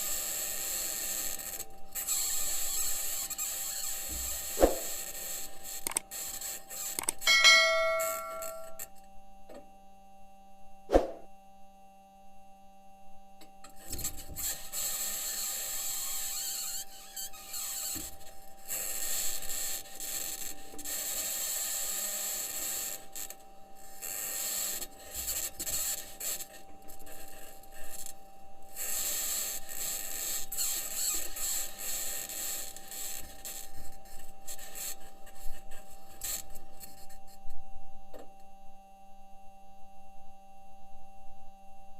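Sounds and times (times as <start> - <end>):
steady electrical hum: 0.0 - 41.9.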